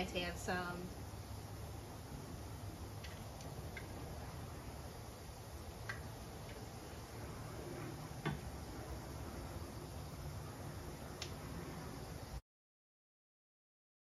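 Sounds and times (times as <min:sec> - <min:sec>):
faint low hum: 0:00.0 - 0:12.4.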